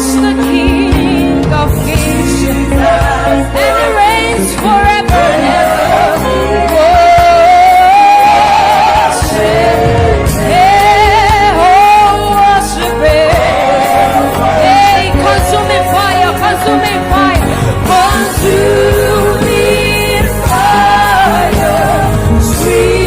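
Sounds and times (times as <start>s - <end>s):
band with bass and drums: 0.0s - 23.0s.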